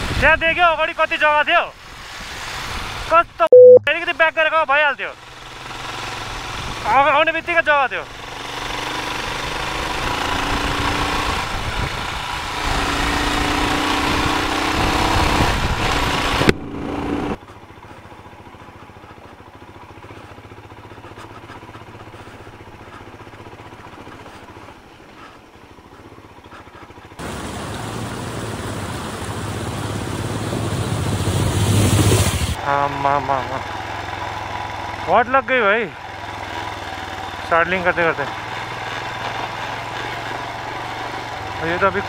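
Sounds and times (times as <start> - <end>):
motorcycle engine running: 5.2 - 42.0.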